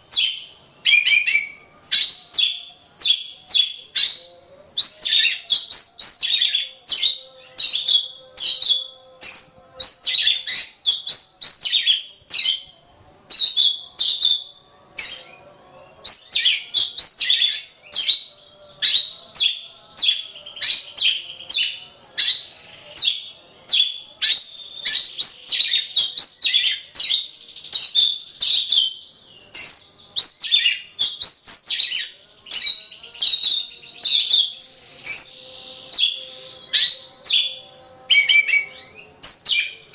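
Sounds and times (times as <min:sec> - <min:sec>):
bird singing rapid whistles: 0:00.0 - 0:39.9.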